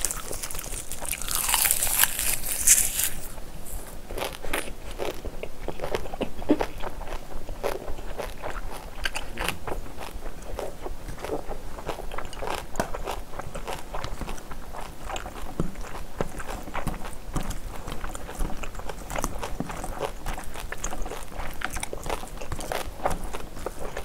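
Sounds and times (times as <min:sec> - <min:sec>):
chewing food: 0:00.0 - 0:24.0.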